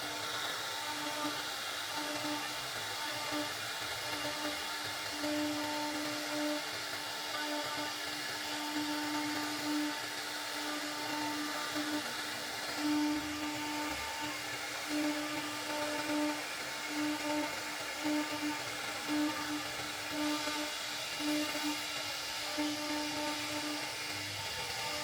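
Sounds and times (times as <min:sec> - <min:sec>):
router motor whine cutting wood: 0:00.0 - 0:25.0.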